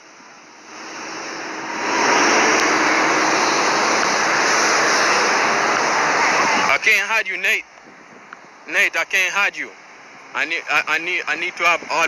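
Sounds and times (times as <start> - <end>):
road traffic rushing past: 0.0 - 12.0.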